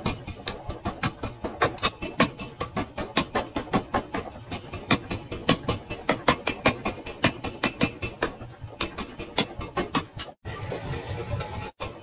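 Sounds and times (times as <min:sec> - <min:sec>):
power hammer pounding metal: 0:00.0 - 0:10.9.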